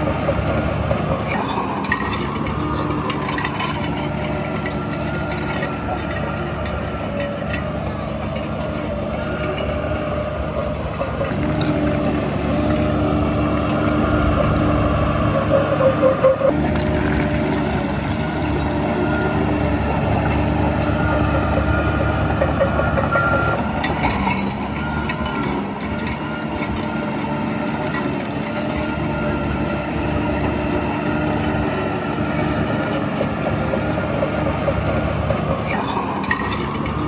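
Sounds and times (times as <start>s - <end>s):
heavy machinery diesel engine running: 0.0s - 37.0s.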